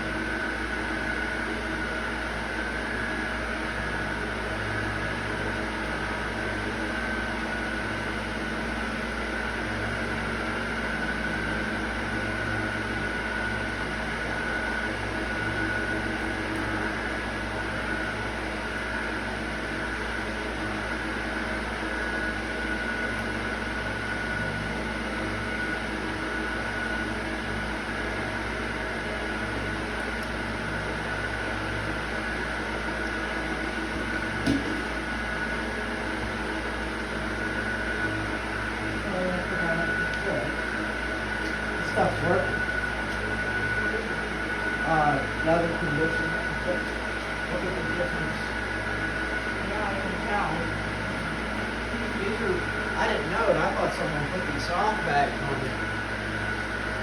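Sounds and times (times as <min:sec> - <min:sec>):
mechanical hum with high whine: 0:00.0 - 0:57.0.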